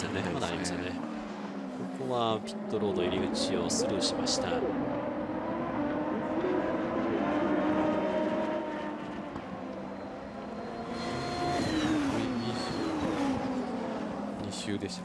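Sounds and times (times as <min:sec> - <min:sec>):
racing car engines passing: 0:00.0 - 0:15.0.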